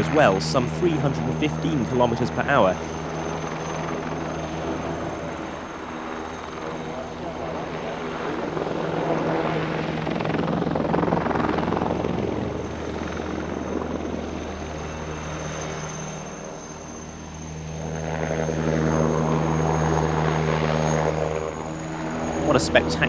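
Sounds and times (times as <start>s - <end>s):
helicopter rotor and turbine: 0.0s - 23.0s.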